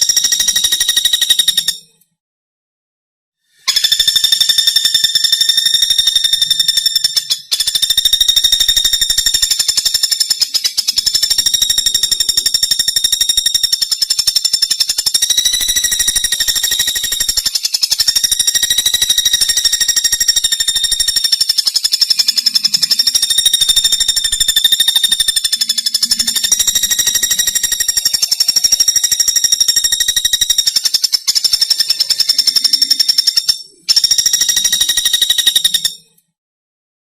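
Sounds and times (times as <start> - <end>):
woodpecker rapid trill: 0.0 - 2.0, 3.5 - 36.2.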